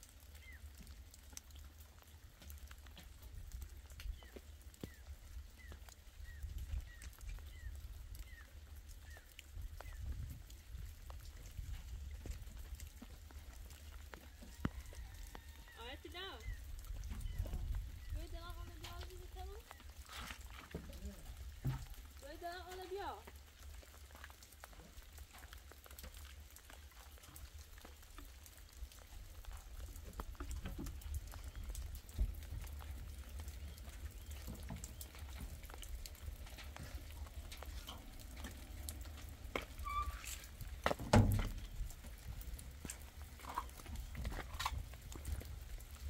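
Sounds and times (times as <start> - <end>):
rain dripping and pattering: 0.0 - 46.0.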